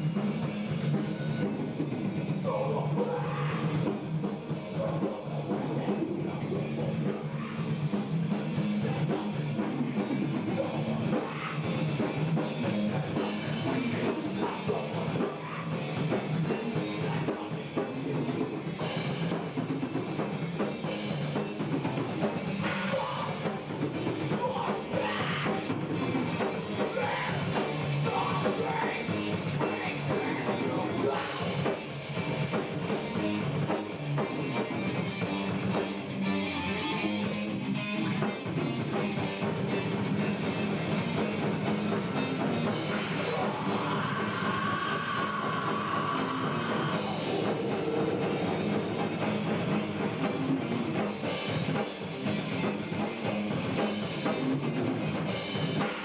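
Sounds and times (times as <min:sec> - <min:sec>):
heavy rock music: 0:00.0 - 0:56.0
loud drum kit: 0:00.0 - 0:56.0.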